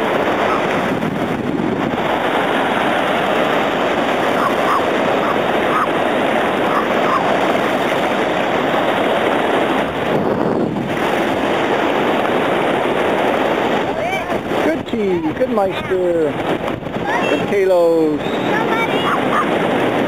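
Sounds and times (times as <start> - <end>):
small surf waves: 0.0 - 20.0
wind buffeting microphone: 0.0 - 20.0.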